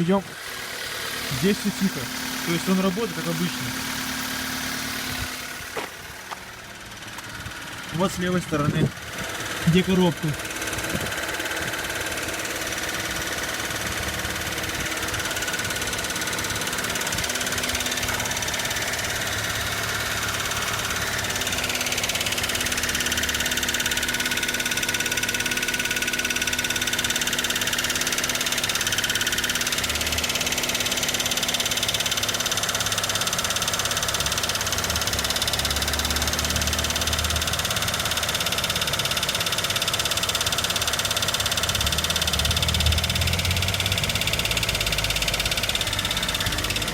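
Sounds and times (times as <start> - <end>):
car engine idling with knock: 0.0 - 46.9.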